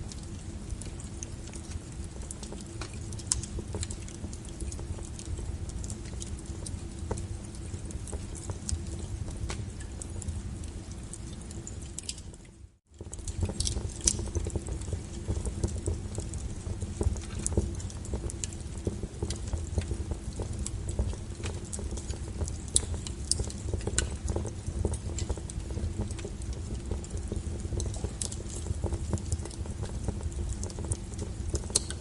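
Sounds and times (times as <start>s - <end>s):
low rumble of burning logs: 0.0s - 32.0s
wood fire crackling and popping: 0.0s - 32.0s.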